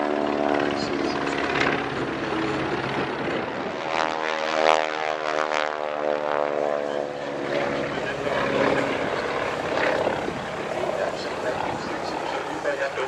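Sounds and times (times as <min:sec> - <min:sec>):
light aircraft droning overhead: 0:00.0 - 0:13.0.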